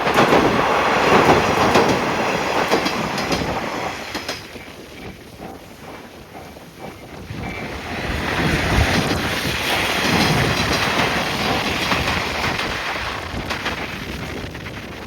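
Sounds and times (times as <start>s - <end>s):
train wheels clattering over rail joints: 0.0s - 15.0s
wind on microphone: 0.0s - 15.0s.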